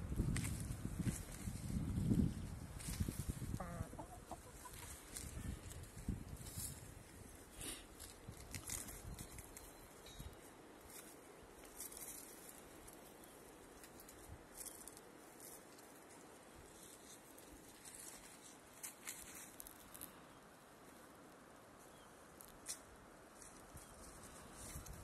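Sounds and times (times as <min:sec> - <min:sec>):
hens pecking and scratching ground: 0:00.0 - 0:25.0.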